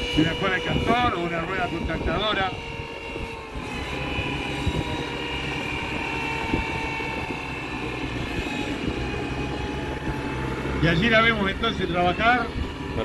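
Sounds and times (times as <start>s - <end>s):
high whine: 0.0s - 13.0s
tractor engine running: 0.0s - 13.0s.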